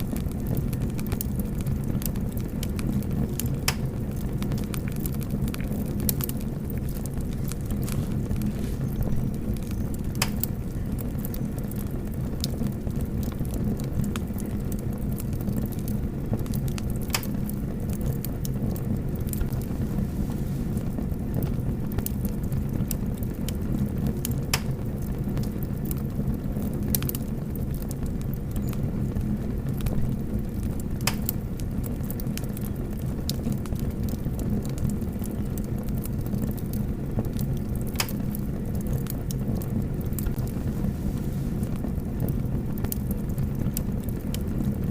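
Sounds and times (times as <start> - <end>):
fire crackling and popping: 0.0 - 44.9
fire roaring: 0.0 - 44.9.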